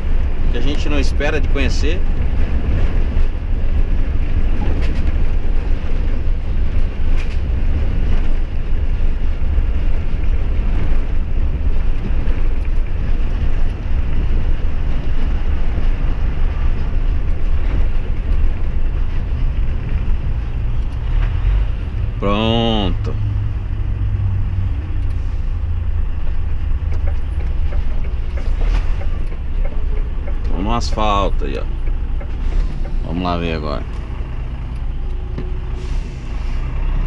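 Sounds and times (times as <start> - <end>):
truck engine and road rumble: 0.0 - 37.0
wind buffeting microphone: 0.0 - 37.0.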